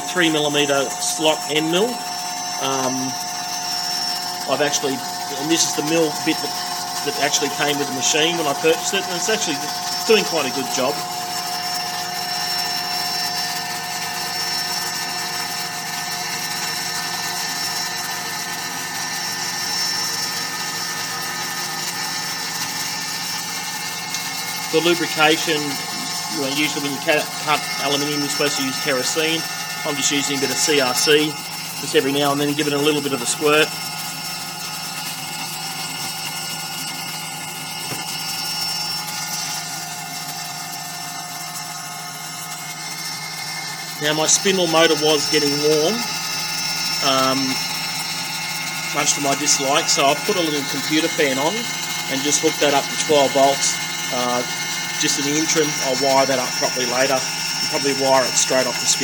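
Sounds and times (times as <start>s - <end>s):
router milling metal whine: 0.0s - 59.0s.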